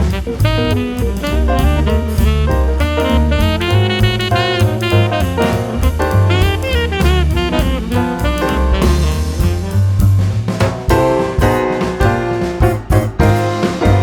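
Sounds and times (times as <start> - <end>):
saxophone melody: 0.0 - 10.3, 10.9 - 14.0
bass: 0.0 - 14.0
drum kit steady beat: 0.0 - 14.0.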